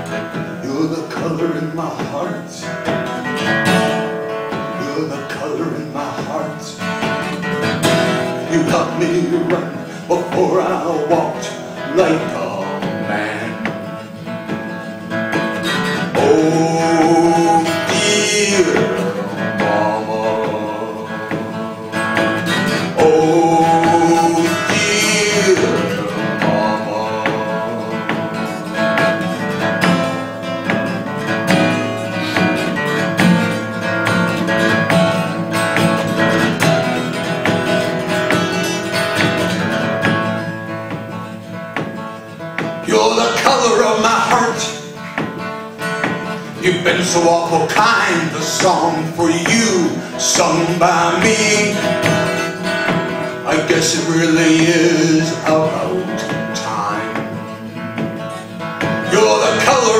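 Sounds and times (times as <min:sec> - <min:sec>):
man singing: 0:00.0 - 0:35.2, 0:42.6 - 0:59.9
acoustic guitar: 0:00.0 - 0:59.9.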